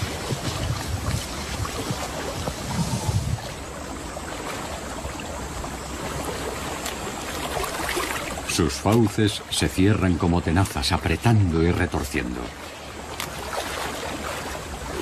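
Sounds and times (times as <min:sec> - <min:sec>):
heavy low splashes: 0:00.0 - 0:15.0
water lapping: 0:00.0 - 0:15.0
water splashing and sloshing: 0:00.0 - 0:15.0.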